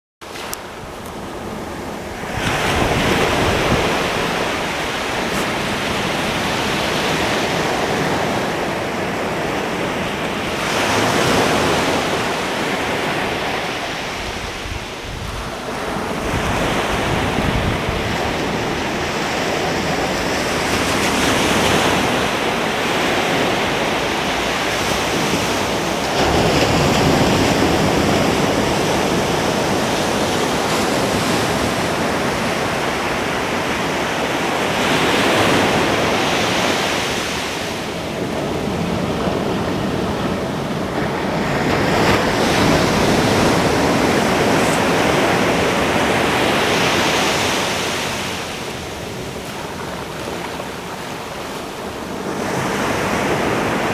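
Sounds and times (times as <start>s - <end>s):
ocean surf breaking on beach: 0.2s - 53.9s.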